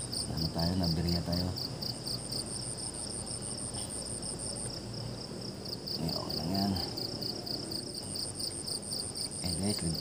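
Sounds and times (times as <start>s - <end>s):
insects chirping: 0.0s - 10.0s
low background rush: 0.0s - 10.0s.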